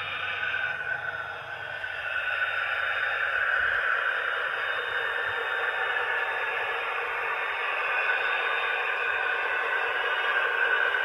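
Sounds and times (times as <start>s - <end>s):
thin hissy diesel engine sound: 0.0s - 11.0s.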